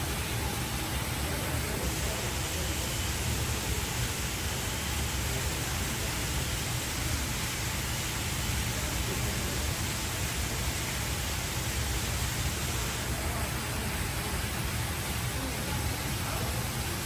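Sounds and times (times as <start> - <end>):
water jet splashing into pool: 0.0 - 17.0.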